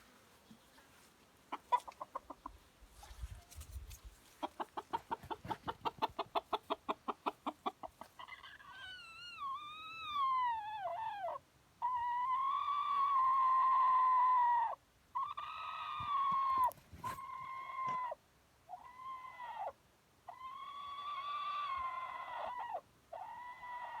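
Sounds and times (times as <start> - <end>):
chicken calling: 1.5 - 2.6, 4.4 - 24.0.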